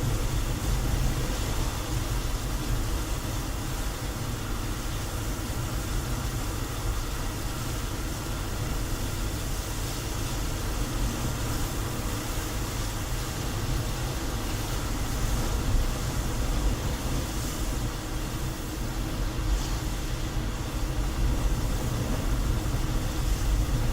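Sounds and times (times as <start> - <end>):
tyre hiss: 0.0 - 23.9.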